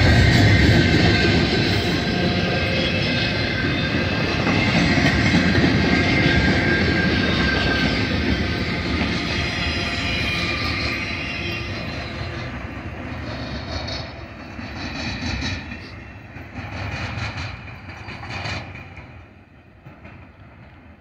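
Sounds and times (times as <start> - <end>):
train wheels clacking over rail joints: 0.0 - 21.0.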